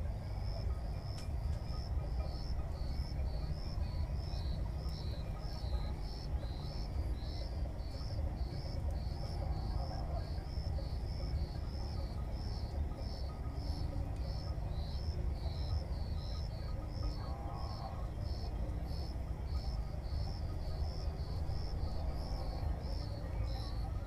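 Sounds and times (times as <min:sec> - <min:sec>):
insect chirping: 0:00.0 - 0:24.0
steady low rumble: 0:00.0 - 0:24.0.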